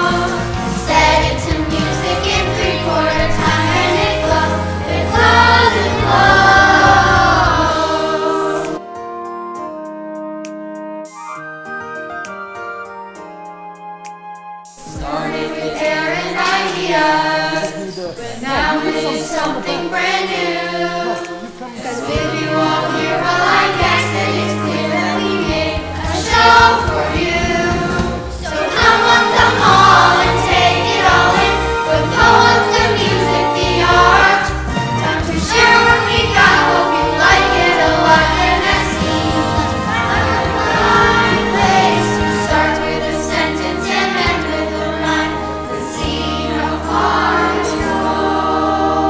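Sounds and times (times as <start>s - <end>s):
young voices singing: 0.0s - 8.8s, 14.7s - 49.0s
backing track: 0.0s - 49.0s.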